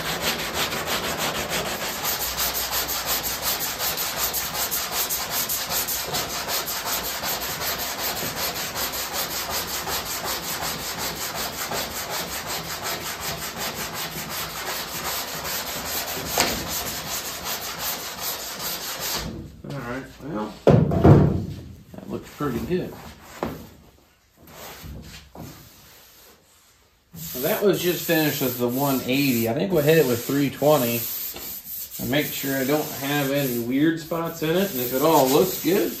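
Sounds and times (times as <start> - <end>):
sanding block rasping on filler: 0.0 - 19.3, 25.7 - 36.0.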